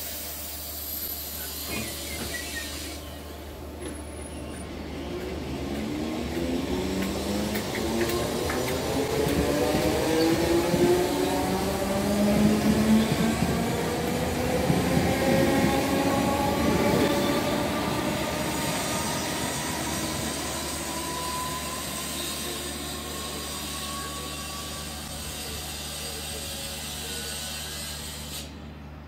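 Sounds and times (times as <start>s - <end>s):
electric train motors whining: 0.2s - 28.7s.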